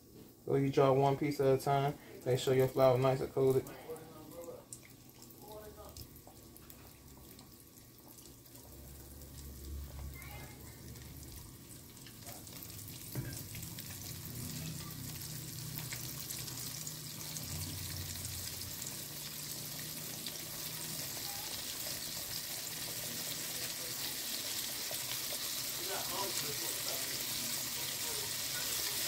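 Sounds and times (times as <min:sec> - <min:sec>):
chicken deep-frying in oil: 0:01.0 - 0:29.0.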